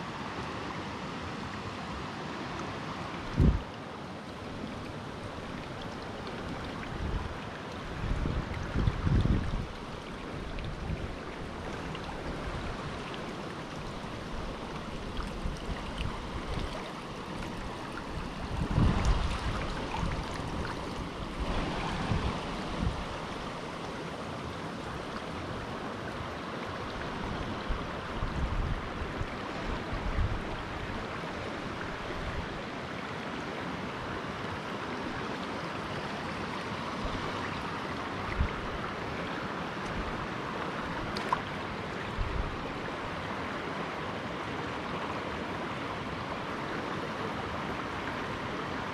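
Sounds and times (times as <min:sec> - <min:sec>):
river rapids rushing over stones: 0:00.0 - 0:48.9.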